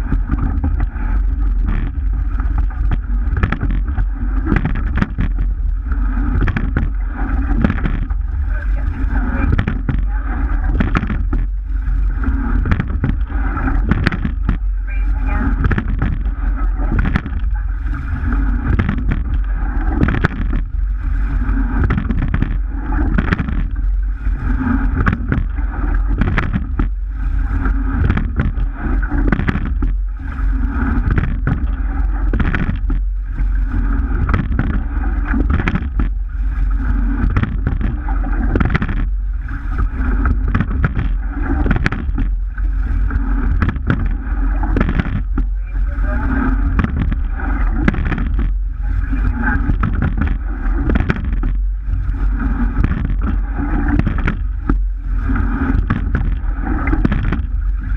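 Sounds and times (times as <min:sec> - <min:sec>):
low wind rumble: 0:00.0 - 0:57.9
water rushing along hull: 0:00.0 - 0:57.9.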